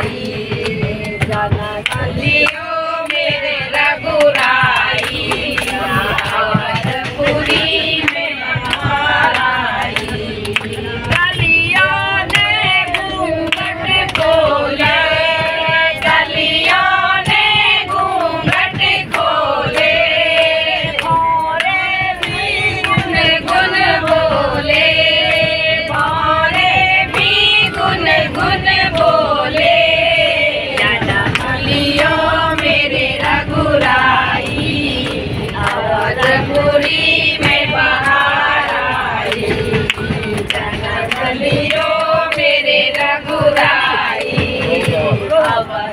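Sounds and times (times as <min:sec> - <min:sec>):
hands clapping in rhythm: 0:00.0 - 0:45.9
women singing in unison: 0:00.0 - 0:45.9.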